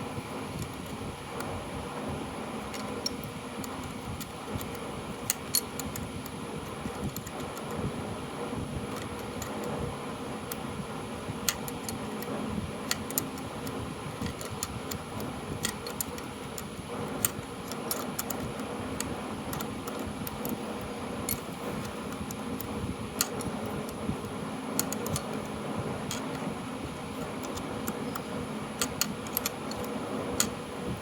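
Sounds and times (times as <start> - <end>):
electric fan running: 0.0 - 31.0.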